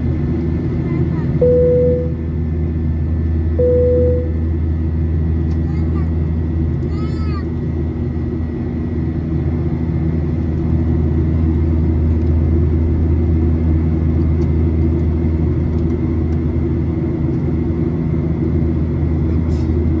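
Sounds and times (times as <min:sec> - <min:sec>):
jet engine rumble inside cabin: 0:00.0 - 0:20.0.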